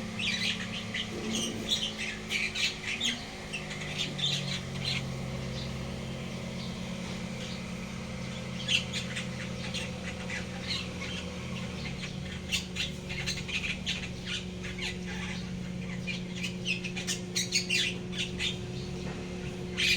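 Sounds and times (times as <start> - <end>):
small animals chirping and squeaking: 0.0 - 19.9
steady low hum: 0.0 - 19.9.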